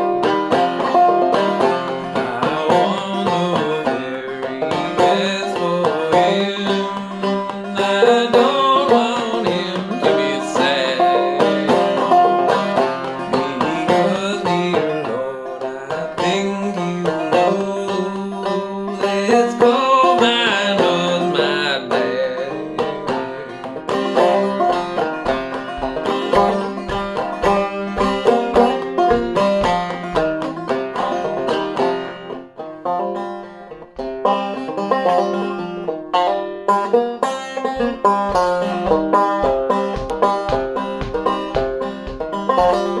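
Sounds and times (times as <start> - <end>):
banjo plucking and strumming: 0.0 - 43.0.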